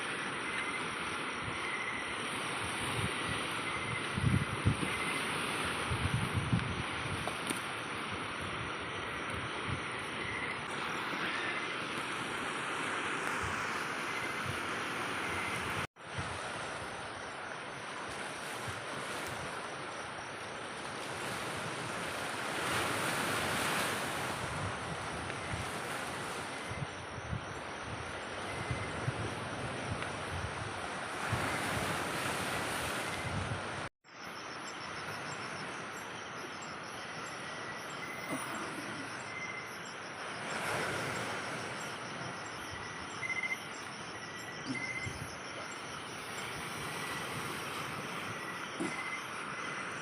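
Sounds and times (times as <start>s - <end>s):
insects chirping: 0.0s - 15.9s, 16.5s - 30.6s, 34.0s - 50.0s
wind: 0.0s - 50.0s.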